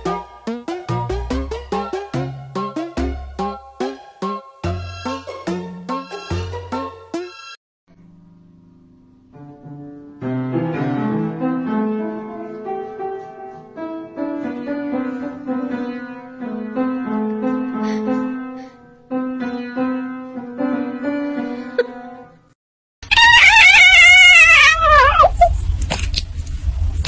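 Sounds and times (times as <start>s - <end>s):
piano playing: 0.0s - 22.4s.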